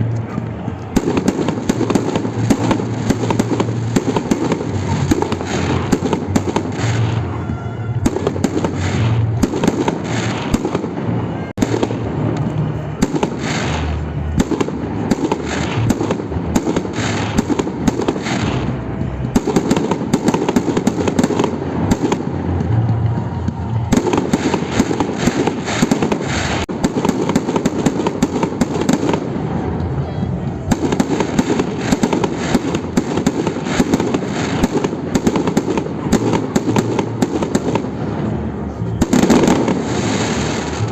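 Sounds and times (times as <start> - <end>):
fireworks booming: 0.0 - 40.9
fireworks cracking: 0.0 - 40.9.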